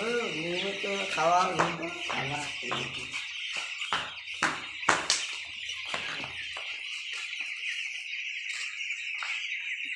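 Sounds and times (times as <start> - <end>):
chicks peeping: 0.0 - 9.9.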